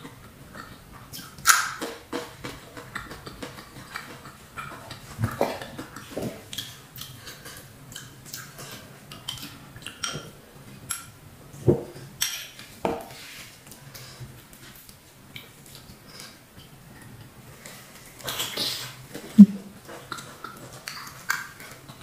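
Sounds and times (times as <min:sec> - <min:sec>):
chewing: 0:00.0 - 0:10.3, 0:13.7 - 0:22.0.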